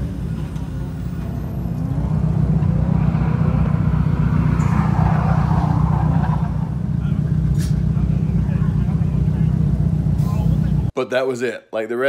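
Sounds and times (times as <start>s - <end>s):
rushing noise: 0.0s - 10.4s
car engine rumbling: 0.0s - 11.0s.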